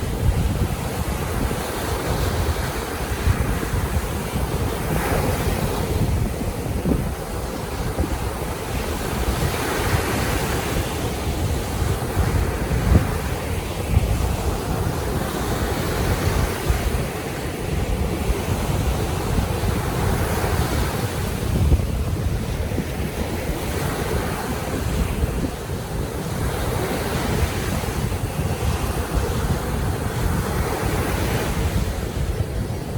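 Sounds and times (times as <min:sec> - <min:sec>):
sea waves breaking: 0:00.0 - 0:32.9
wind rumbling on microphone: 0:00.0 - 0:32.9.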